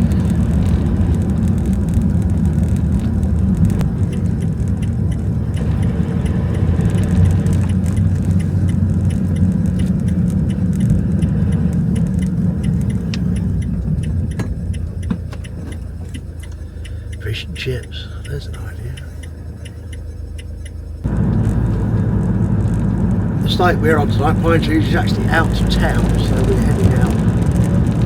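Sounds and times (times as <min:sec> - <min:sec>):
van engine and road rumble: 0:00.0 - 0:28.0.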